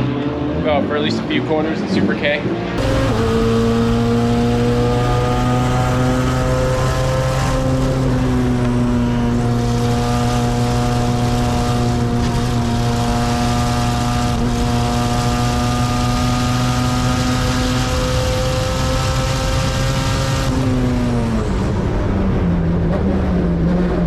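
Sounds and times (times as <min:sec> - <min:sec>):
race car engine at high revs: 0:00.0 - 0:24.0.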